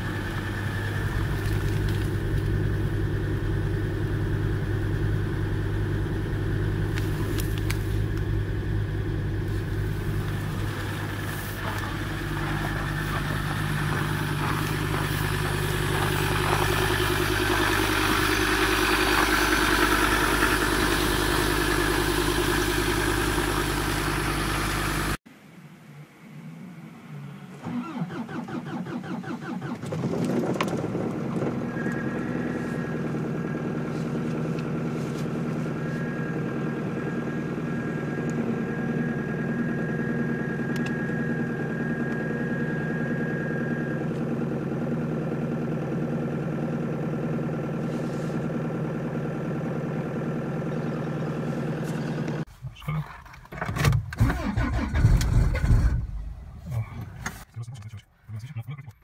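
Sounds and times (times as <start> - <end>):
diesel engine cranking: 0.0 - 25.2, 27.5 - 57.5
diesel engine idling: 0.0 - 25.2, 27.7 - 52.9, 54.2 - 57.5.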